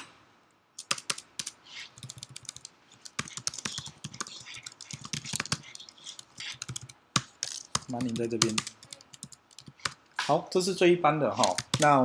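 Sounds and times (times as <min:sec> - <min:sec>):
typing on computer keyboard: 0:00.8 - 0:10.0, 0:11.4 - 0:12.0.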